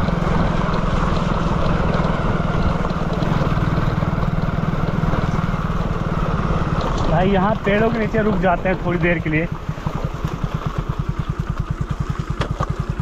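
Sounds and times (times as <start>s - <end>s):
motorcycle engine running: 0.0s - 13.0s
wind and rain noise: 0.0s - 13.0s.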